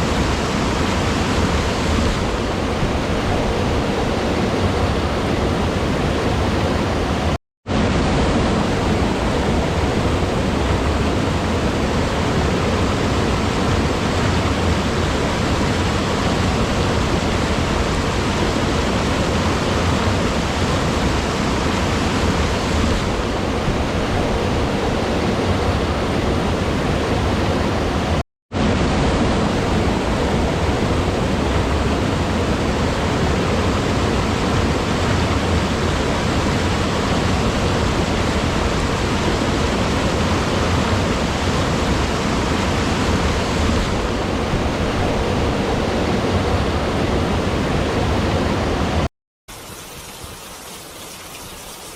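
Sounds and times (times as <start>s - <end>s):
rushing water: 0.0s - 51.9s.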